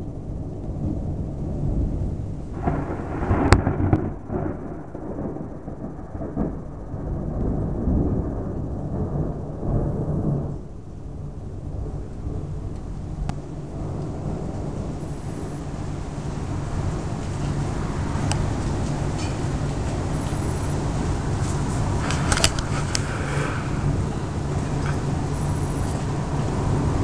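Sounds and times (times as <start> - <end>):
thunder rumbling and cracking: 0.0 - 27.0.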